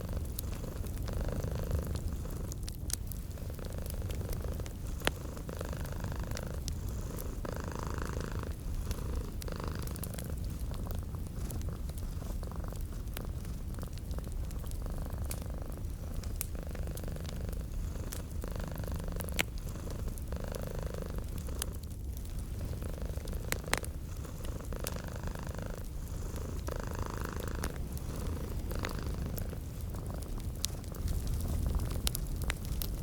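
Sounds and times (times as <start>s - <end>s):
cat purring: 0.0s - 33.0s
wood fire crackling: 0.0s - 33.0s.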